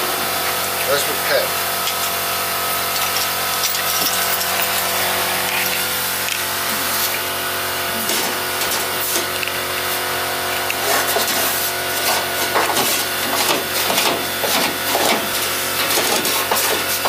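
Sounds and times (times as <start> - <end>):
power tool on sheet steel: 0.0 - 17.0.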